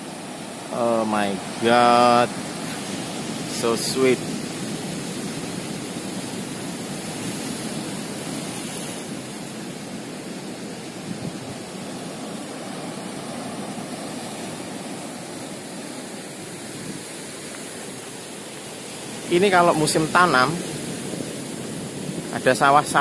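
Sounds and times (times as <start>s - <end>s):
sea surf on rocky shore: 0.0s - 23.0s.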